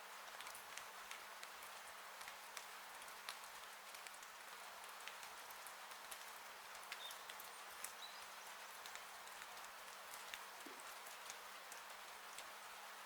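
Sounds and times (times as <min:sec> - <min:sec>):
rain on a roof: 0:00.0 - 0:13.0.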